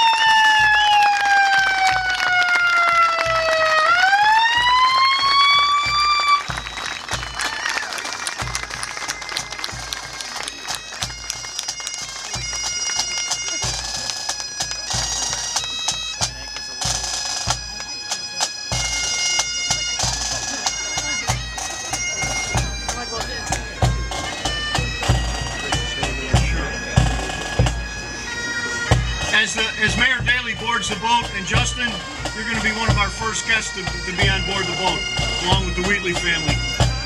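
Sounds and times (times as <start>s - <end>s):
bagpipes playing: 0.0s - 37.0s.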